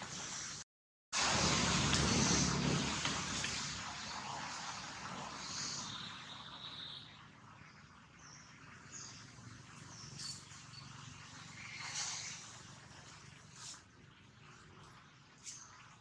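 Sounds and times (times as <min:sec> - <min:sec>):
faint outdoor background hiss: 0:01.2 - 0:16.0.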